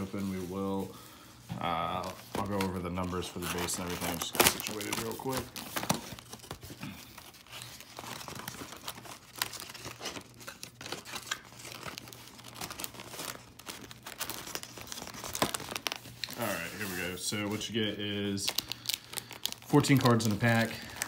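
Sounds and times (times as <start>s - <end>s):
plastic wrapping crinkling and tearing: 0.0s - 21.0s.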